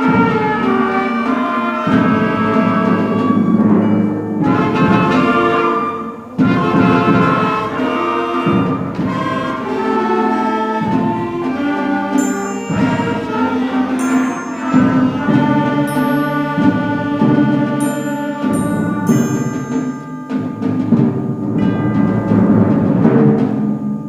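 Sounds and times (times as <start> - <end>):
concert band playing: 0.0 - 24.0.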